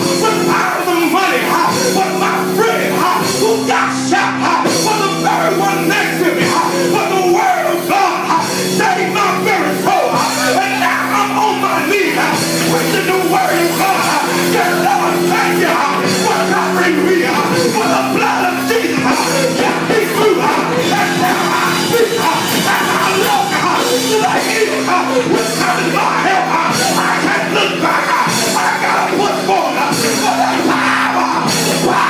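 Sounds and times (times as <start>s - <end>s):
live gospel music: 0.0s - 32.0s.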